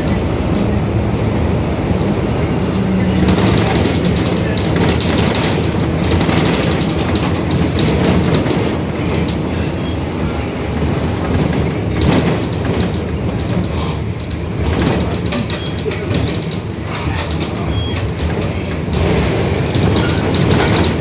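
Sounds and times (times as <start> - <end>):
bus body rattling: 0.0 - 21.0
bus diesel engine running: 0.0 - 21.0
road noise: 0.0 - 21.0.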